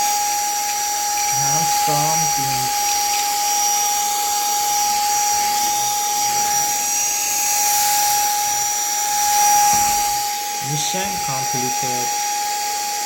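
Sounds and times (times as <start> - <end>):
handheld vacuum cleaner whine: 0.0 - 13.0.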